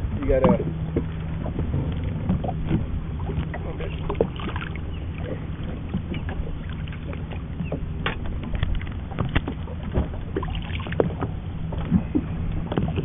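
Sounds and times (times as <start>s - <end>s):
boat motor idling: 0.0s - 13.0s
water splashes: 0.0s - 13.0s
knocks on boat: 0.2s - 13.0s.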